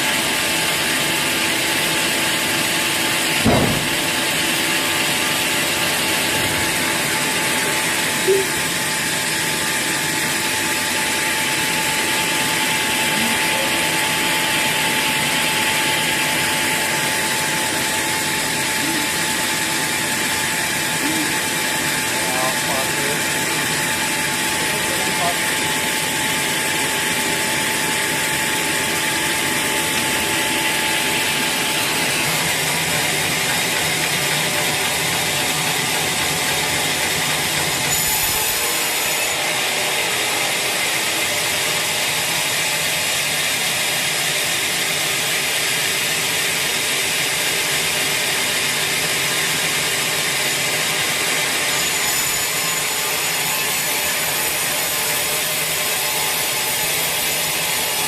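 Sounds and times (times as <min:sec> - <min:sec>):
saw blade cutting log: 0:00.4 - 0:42.8, 0:50.3 - 0:58.0.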